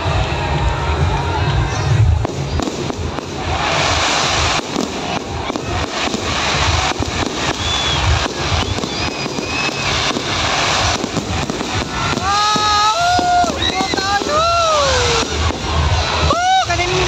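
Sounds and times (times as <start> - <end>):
fireworks crackling and hissing: 0.0 - 17.0
firework shells booming: 2.2 - 16.4.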